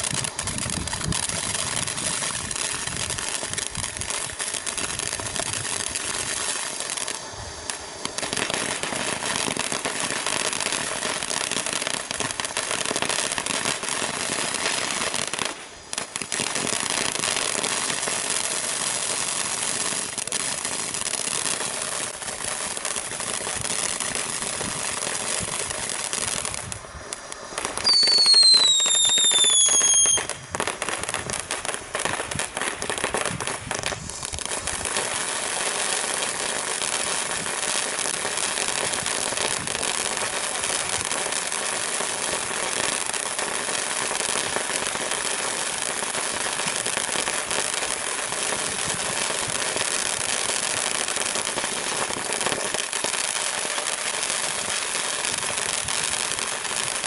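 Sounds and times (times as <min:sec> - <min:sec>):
falling firework whistle: 0:00.0 - 0:57.0
firework hissing and crackling: 0:00.0 - 0:57.0.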